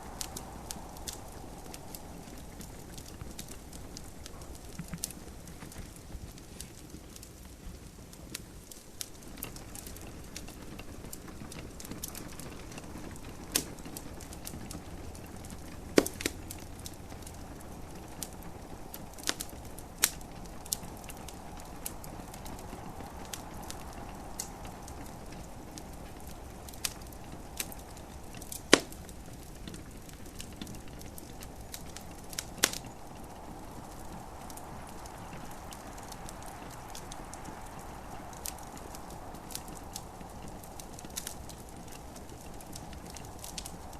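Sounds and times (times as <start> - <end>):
steady low hiss: 0.0 - 43.9
wood fire crackling and popping: 0.0 - 43.9.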